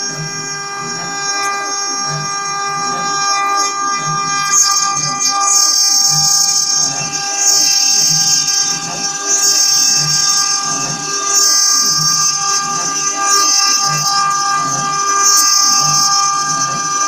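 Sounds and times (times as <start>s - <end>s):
milling machine spindle whine: 0.0s - 17.0s.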